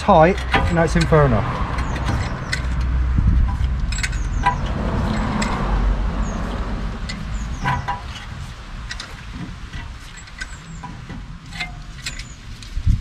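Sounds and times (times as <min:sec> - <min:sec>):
low rumble: 0:00.0 - 0:13.0
sharp metallic clicks and scrapes: 0:00.0 - 0:13.0.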